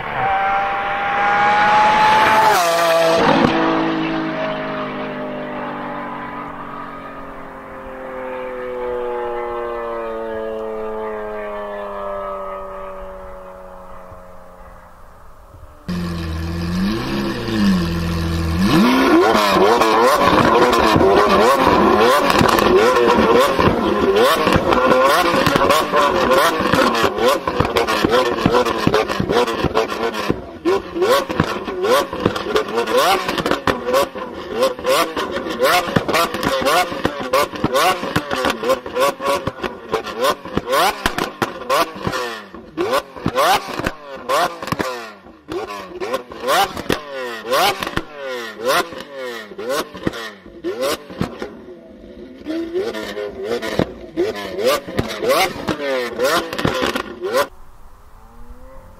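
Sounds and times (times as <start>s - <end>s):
car engine revving: 0.0s - 58.9s
exhaust crackles: 0.0s - 58.9s.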